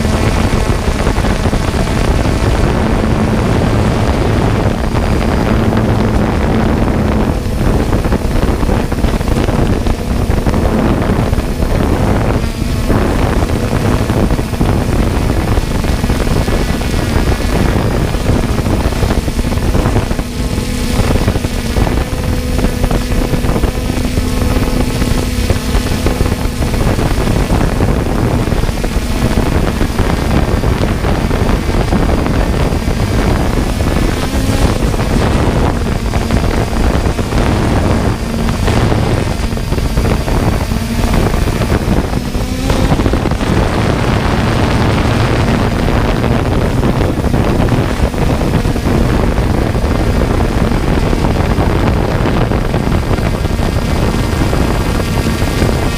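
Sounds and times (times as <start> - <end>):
drone propellers whirring: 0.0 - 55.9
wind on microphone: 0.0 - 55.9.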